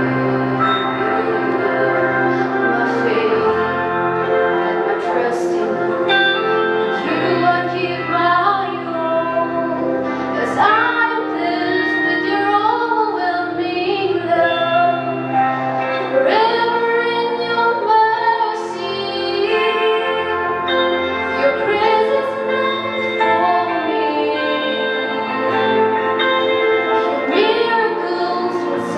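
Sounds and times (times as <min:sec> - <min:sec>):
woman singing slow song: 0:00.0 - 0:15.4, 0:16.0 - 0:25.5, 0:27.0 - 0:28.9
held backing chords: 0:00.0 - 0:28.9.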